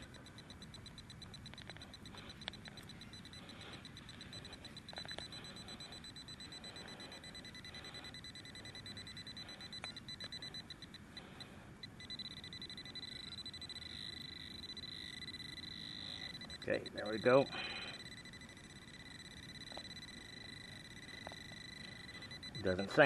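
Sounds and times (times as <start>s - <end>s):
metal detector beeping: 0.0s - 23.0s.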